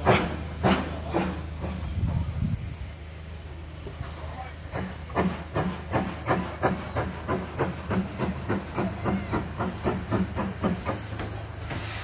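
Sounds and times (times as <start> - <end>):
steady hiss of steam: 0.0 - 12.0
steam locomotive exhaust beats: 0.0 - 12.0.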